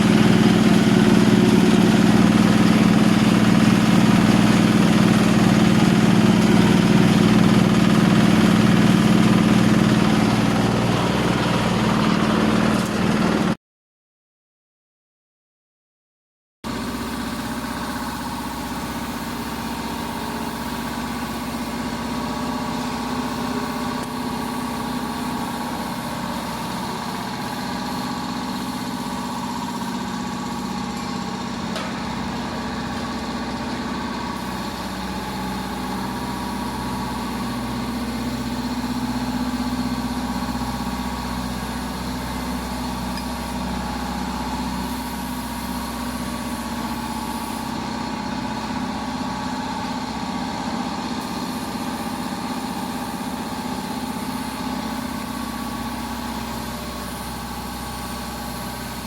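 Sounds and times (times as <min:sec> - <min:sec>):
machine engine droning: 0:00.0 - 0:13.6, 0:19.5 - 0:54.4.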